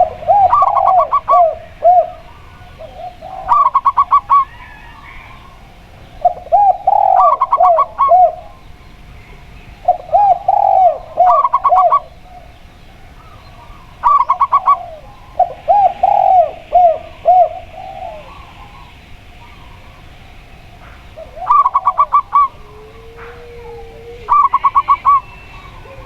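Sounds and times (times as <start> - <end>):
dove arched coos: 0.0 - 26.0.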